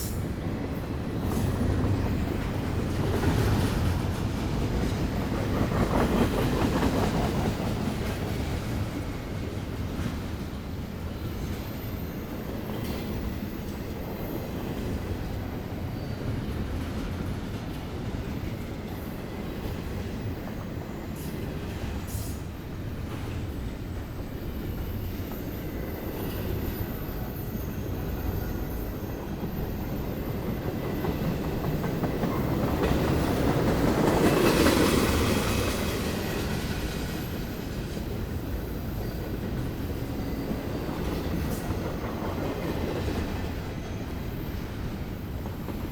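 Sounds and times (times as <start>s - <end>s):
freight train rumbling: 0.0s - 45.9s.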